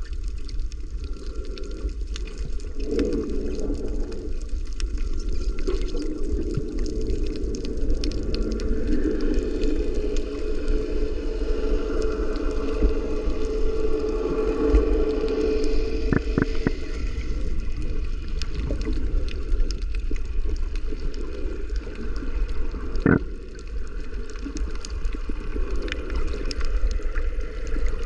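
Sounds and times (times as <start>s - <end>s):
low rumble: 0.0s - 28.0s
water gurgling and lapping: 0.0s - 28.0s.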